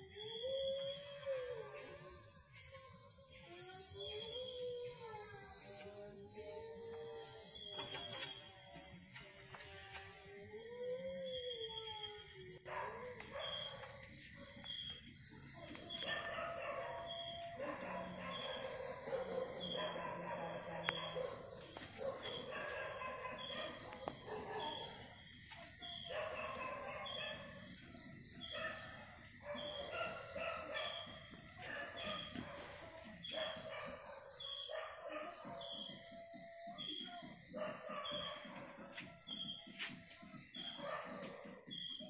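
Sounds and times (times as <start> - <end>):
high insect drone: 0.0 - 42.0.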